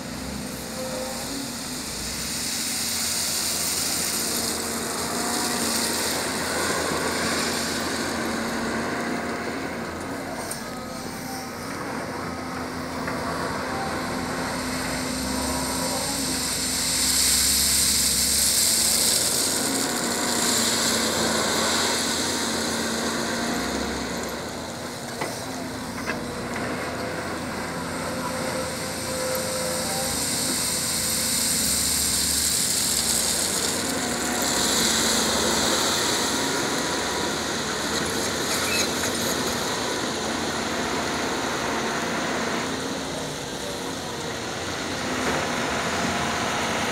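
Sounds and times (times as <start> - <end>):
excavator diesel engine whining: 0.0 - 46.9.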